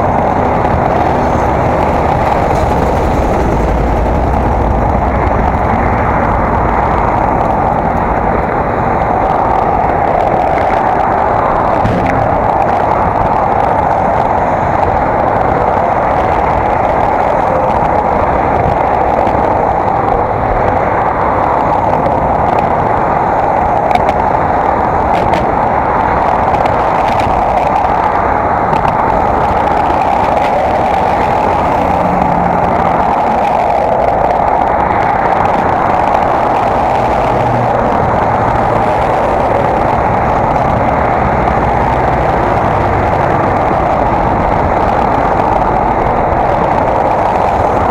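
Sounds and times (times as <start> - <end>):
passing motor traffic hum: 0.0 - 47.9
wind and road noise: 0.0 - 47.9.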